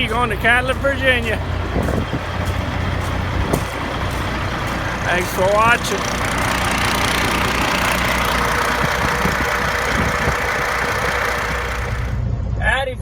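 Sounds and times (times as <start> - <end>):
diesel truck engine running: 0.0 - 12.2.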